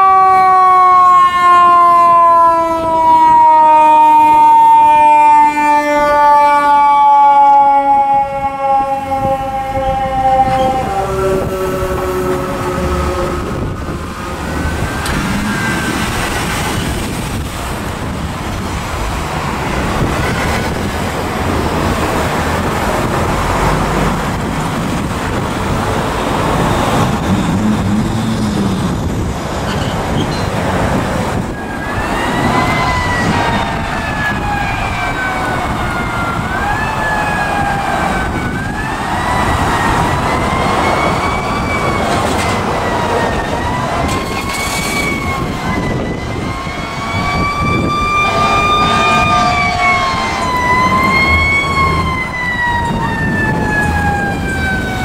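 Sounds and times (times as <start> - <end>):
emergency siren wailing: 0.0 - 55.0
traffic passing: 0.0 - 55.0.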